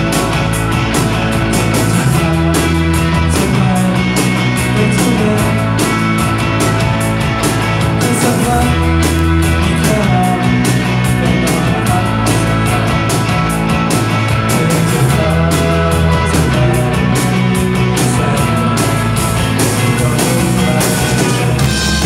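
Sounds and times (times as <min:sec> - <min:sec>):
drum kit with cymbal hits: 0:00.0 - 0:22.0
electric bass: 0:00.0 - 0:22.0
electric guitar: 0:00.0 - 0:22.0.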